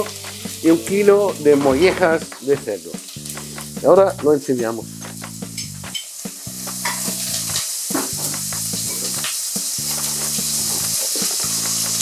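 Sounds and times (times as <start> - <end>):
background music with low notes: 0.0 - 12.0
onions sizzling in hot oil: 0.0 - 12.0.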